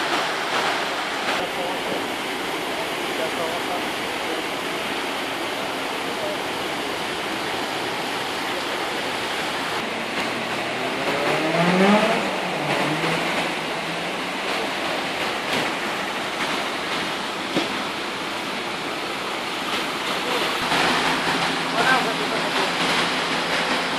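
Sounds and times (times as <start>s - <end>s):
floodwater rushing: 0.0s - 23.9s.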